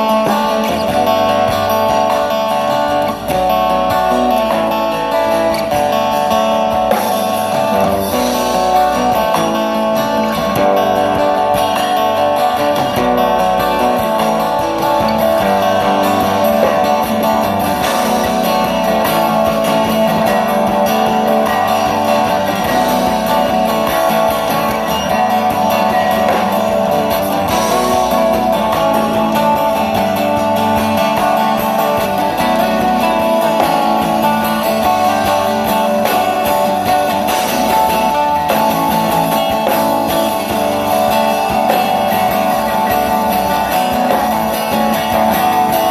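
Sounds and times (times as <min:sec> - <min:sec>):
country band playing instrumental: 0:00.0 - 0:45.9
electric and acoustic guitars: 0:00.0 - 0:45.9.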